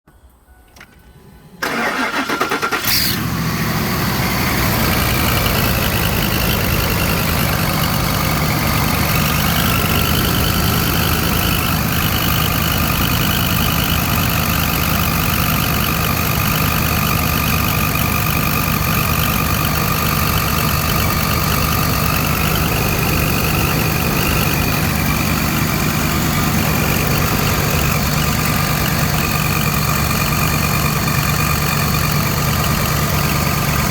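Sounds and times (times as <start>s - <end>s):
car engine starting and idling: 0.1s - 33.9s.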